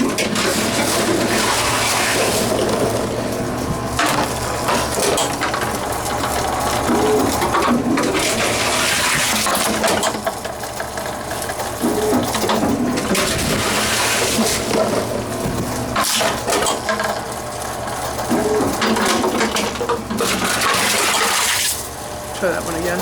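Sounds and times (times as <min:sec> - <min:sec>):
machine mechanical rushing with clatter: 0:00.0 - 0:23.0.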